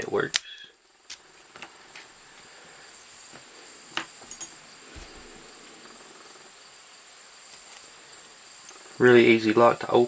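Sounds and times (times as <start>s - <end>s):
steady high-pitched whine: 0.0s - 10.0s.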